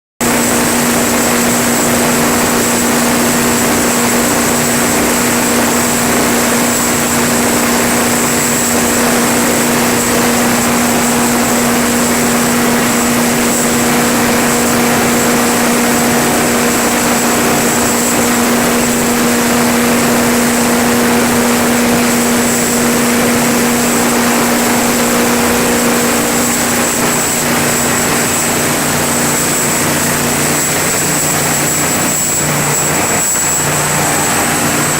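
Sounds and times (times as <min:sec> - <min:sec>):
generator diesel engine running: 0:00.2 - 0:34.9
high whine: 0:00.2 - 0:34.9
steady hum: 0:00.2 - 0:34.9.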